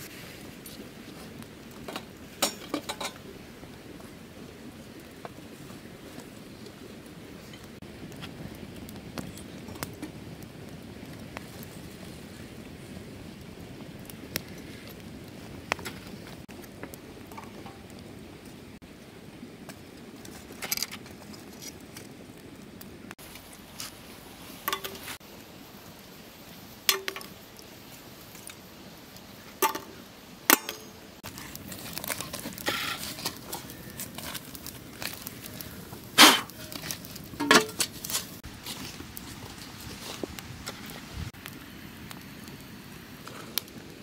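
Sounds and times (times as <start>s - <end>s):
faint steady hiss: 0.0s - 44.0s.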